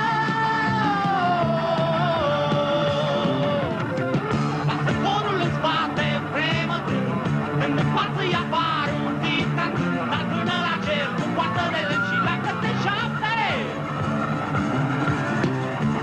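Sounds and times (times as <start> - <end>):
man singing: 0.0 - 4.0, 4.6 - 13.8
rock band playing: 0.0 - 16.0.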